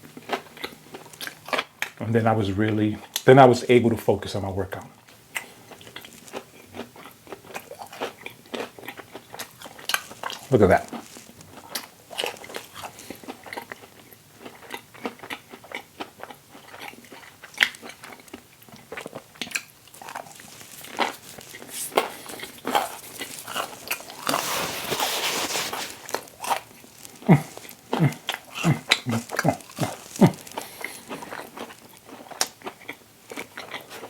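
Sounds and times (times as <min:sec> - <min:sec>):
chewing crunching food: 0:00.0 - 0:03.3, 0:04.8 - 0:34.0.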